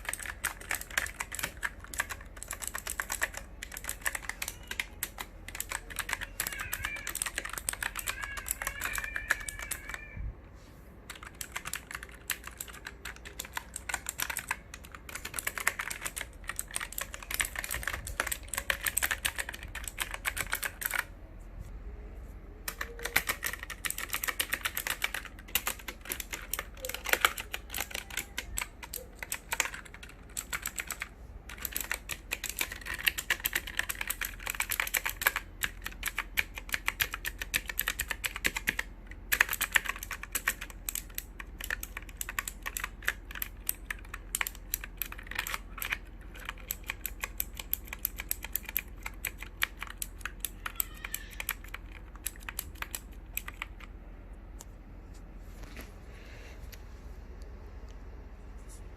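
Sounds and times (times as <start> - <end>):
keyboard typing clicks: 0.0 - 10.0, 11.1 - 21.1, 22.6 - 54.0.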